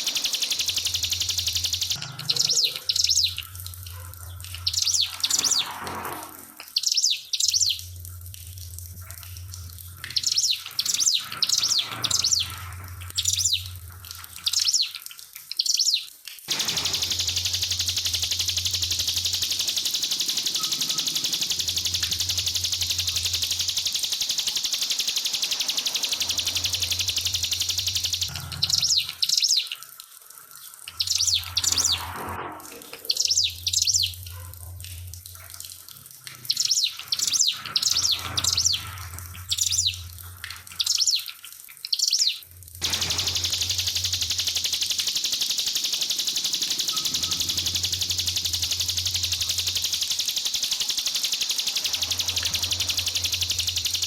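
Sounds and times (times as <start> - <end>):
small bird chirping: 0.0 - 3.5, 4.2 - 5.8, 6.6 - 7.9, 10.0 - 13.8, 14.4 - 29.8, 30.9 - 32.2, 33.1 - 34.2, 36.5 - 40.1, 40.7 - 54.0
trickling water: 0.0 - 54.0.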